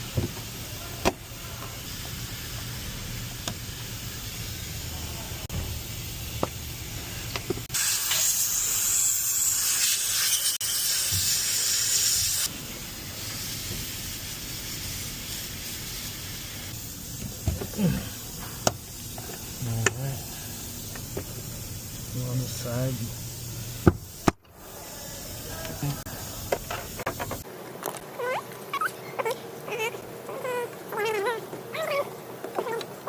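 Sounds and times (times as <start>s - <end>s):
pressurised spray hissing: 0.0s - 27.5s.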